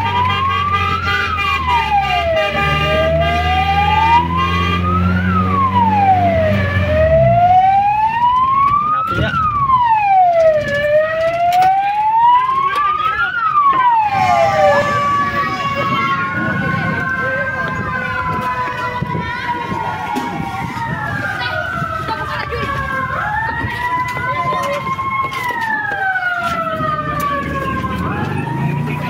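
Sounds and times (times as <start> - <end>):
fire truck siren wailing: 0.0 - 29.0.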